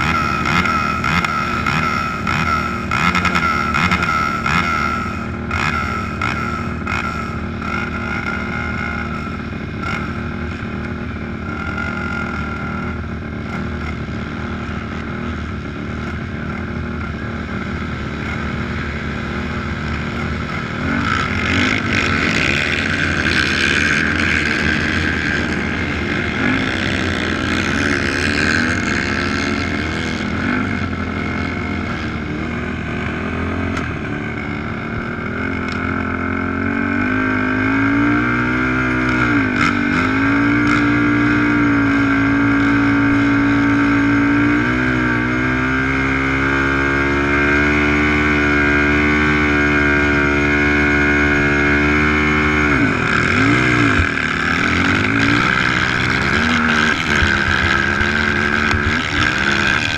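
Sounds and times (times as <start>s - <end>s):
quad engines idling and revving: 0.0s - 59.9s.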